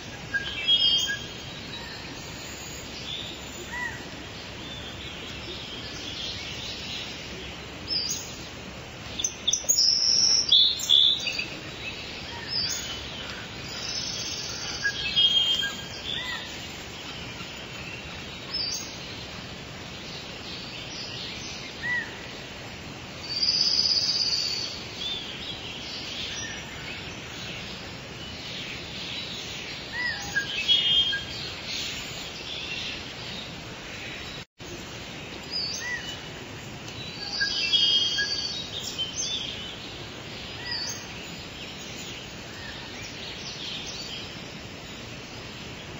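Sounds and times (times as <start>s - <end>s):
outdoor hiss: 0.0s - 45.9s
songbirds chirping: 0.0s - 45.9s.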